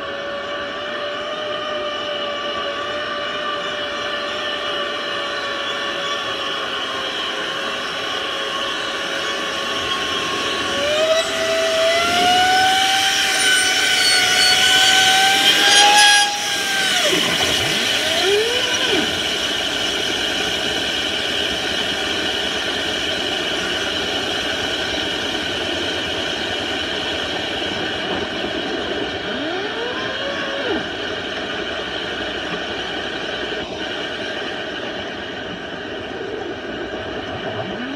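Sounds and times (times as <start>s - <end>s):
motor with rushing noise: 0.0s - 37.9s.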